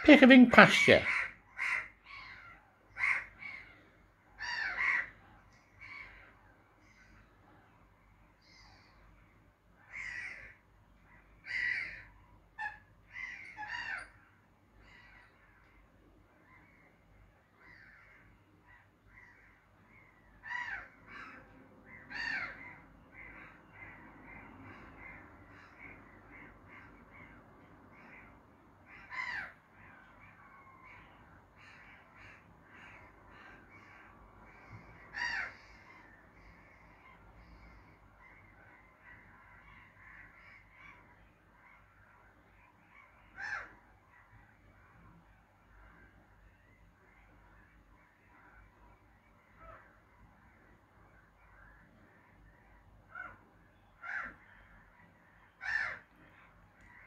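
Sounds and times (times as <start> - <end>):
loud sharp bird calls: 0.0 - 7.4, 8.4 - 45.1, 45.7 - 57.0.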